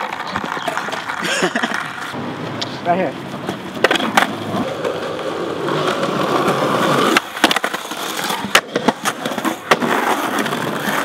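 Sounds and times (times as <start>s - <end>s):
skateboard clacking on concrete: 0.0s - 2.6s, 3.2s - 11.0s
skateboard wheels rolling: 0.0s - 11.0s.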